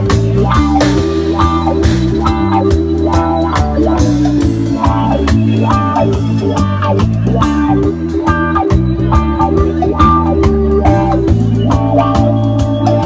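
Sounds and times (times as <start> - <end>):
band playing reggae rock song: 0.0 - 13.0
bass line: 0.0 - 13.0
drum kit steady beat: 0.0 - 13.0
guitar chords: 0.0 - 13.0.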